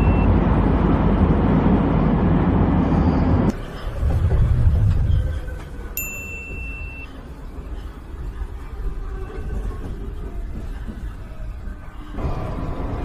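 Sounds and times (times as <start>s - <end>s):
metro train rumble: 0.0s - 13.0s.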